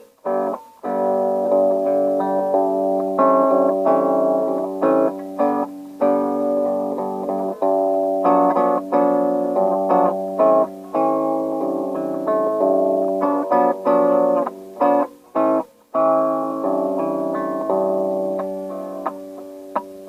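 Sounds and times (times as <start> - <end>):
guitar notes and chords: 0.0 - 20.0.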